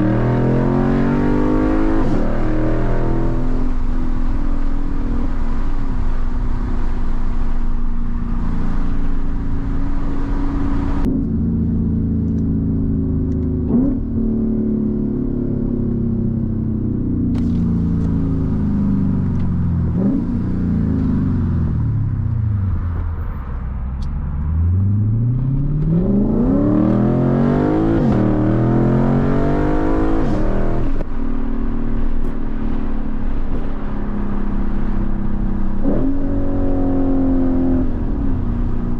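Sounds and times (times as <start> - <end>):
car engine: 0.0 - 38.9.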